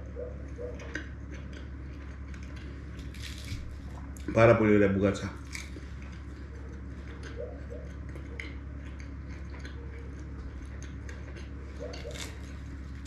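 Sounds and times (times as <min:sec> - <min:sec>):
chewing crispy pastry: 0:00.0 - 0:13.0
low hum: 0:00.0 - 0:13.0.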